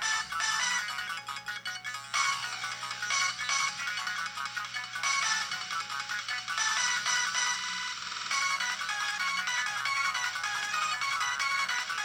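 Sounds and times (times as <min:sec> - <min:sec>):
polyphonic phone ringtone: 0:00.0 - 0:12.0.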